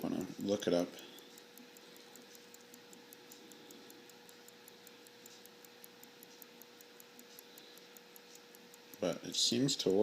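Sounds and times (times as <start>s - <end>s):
pocket watch ticking: 0.0s - 10.0s.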